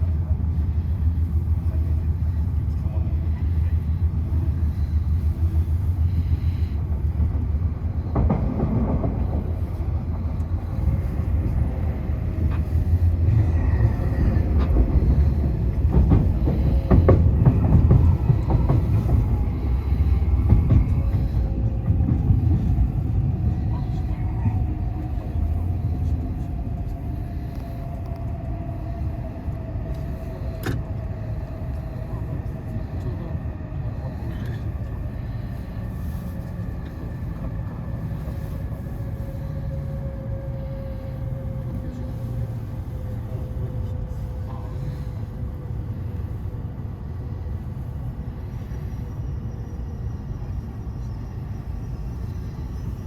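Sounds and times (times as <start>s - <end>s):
train rumbling: 0.0s - 53.0s.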